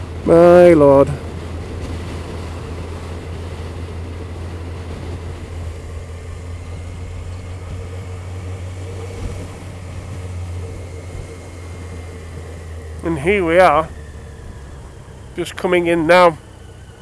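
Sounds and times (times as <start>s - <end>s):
motorcycle engine cruising: 0.0s - 17.0s
road noise: 0.0s - 17.0s.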